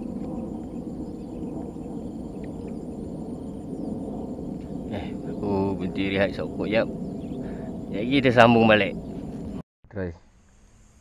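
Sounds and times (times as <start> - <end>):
faint high whine: 0.0 - 9.6
low outdoor rumble: 0.0 - 9.6.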